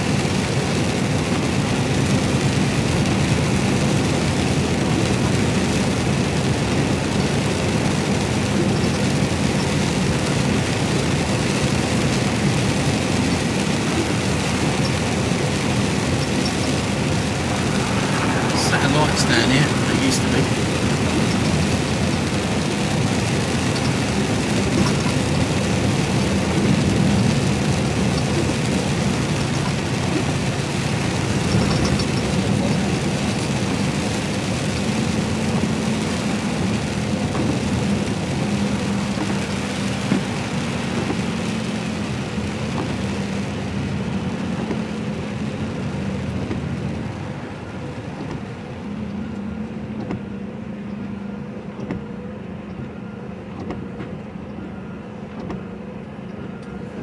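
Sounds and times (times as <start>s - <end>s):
tyres hissing on wet road: 0.0s - 50.0s
diesel truck engine humming: 0.0s - 57.0s.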